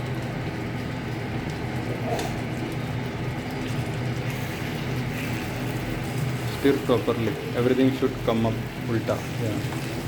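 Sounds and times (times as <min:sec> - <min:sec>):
curry sizzling in a pan: 0:00.0 - 0:10.0
low kitchen hum: 0:00.0 - 0:10.0.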